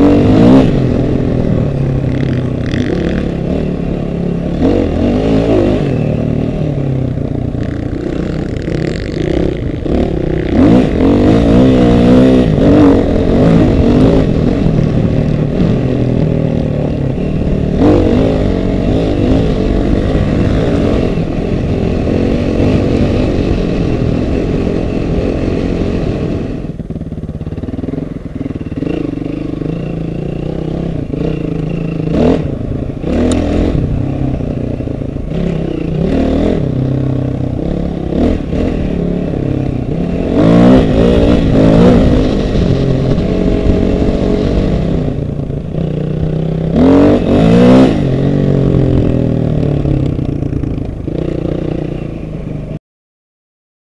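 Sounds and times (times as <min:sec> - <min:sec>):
off-road engines revving: 0:00.0 - 0:26.7, 0:27.7 - 0:50.2.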